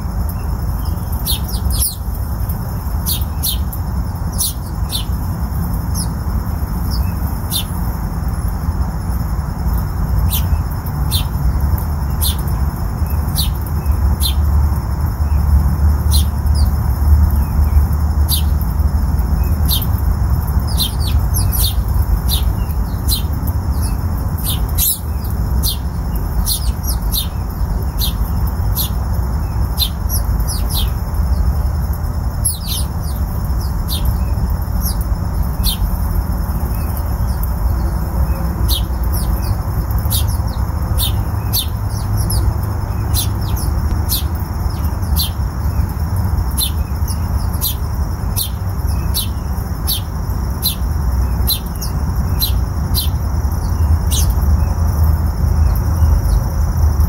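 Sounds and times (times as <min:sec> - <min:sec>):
bird chirping: 0:00.1 - 0:57.0.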